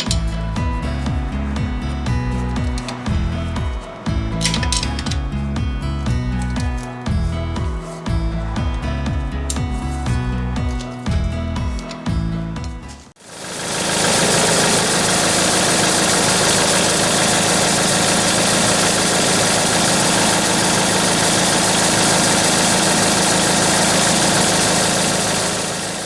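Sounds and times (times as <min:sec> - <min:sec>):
tractor diesel engine idling: 0:00.0 - 0:10.6, 0:13.2 - 0:26.0.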